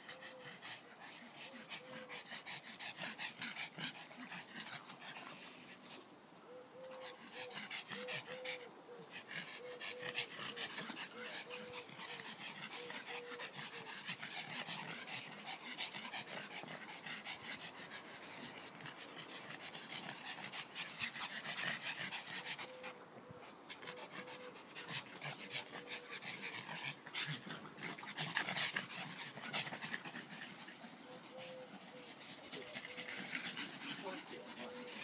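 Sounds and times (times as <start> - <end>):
small dogs panting: 0.0 - 35.0.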